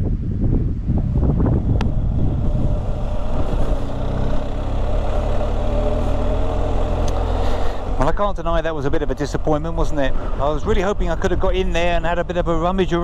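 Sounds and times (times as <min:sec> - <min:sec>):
wind buffeting microphone: 0:00.0 - 0:13.0
motorcycle engine idling: 0:01.0 - 0:13.0.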